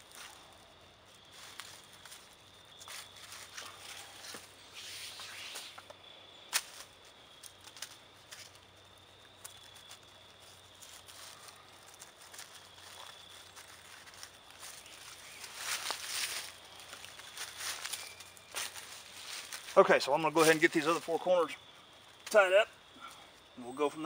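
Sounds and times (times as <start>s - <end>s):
dry leaves crunching underfoot: 0.0s - 4.5s, 6.5s - 21.4s.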